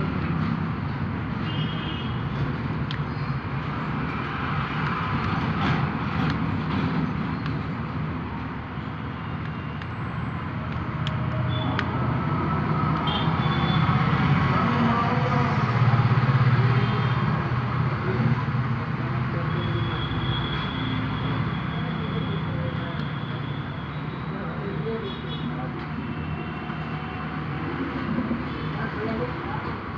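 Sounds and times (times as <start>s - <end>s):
traffic engine rumble: 0.0s - 29.9s.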